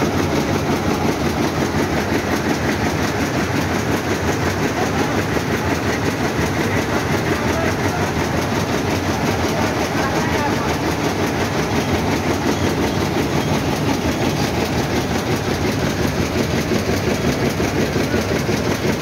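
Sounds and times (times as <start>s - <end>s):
printing press running: 0.0s - 19.0s.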